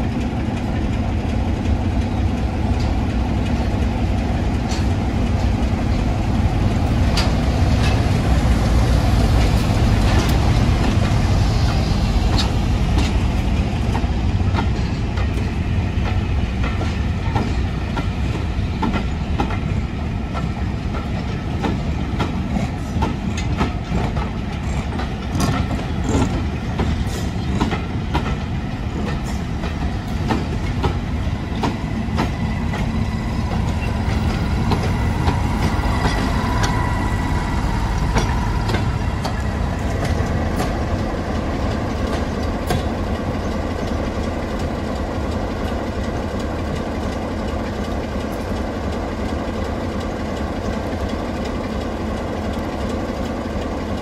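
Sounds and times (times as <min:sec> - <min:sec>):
smooth train running sound: 0:00.0 - 0:54.0
train wheels clicking over rail joints: 0:00.0 - 0:54.0.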